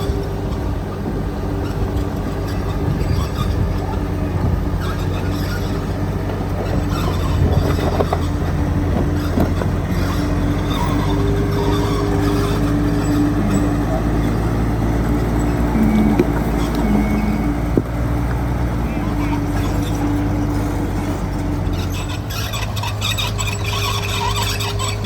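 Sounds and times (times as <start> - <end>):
heavy diesel engine running: 0.0 - 25.0
steady mechanical whine: 0.0 - 25.0.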